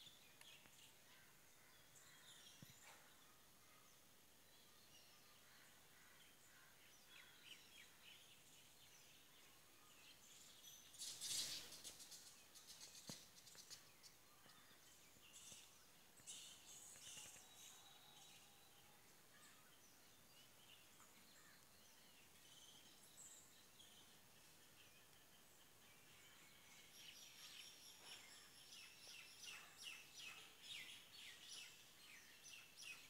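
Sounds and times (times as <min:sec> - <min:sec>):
faint bird chirps: 0:00.0 - 0:33.0
faint outdoor ambience: 0:00.0 - 0:33.0.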